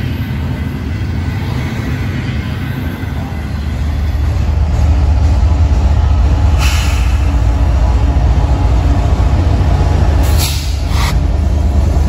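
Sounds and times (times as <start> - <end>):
diesel locomotive engines rumbling: 0.0 - 12.0
freight train wheels on rails: 0.0 - 12.0.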